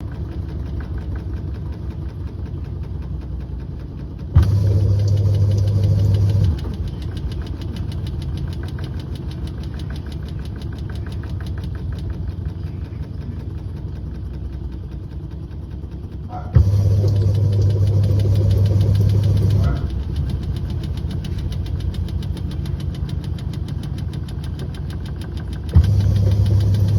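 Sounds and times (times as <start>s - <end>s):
appliance humming: 3.6s - 26.9s
louder steady hum: 4.3s - 14.2s, 14.9s - 26.9s
fast even ticking patter: 5.0s - 26.9s.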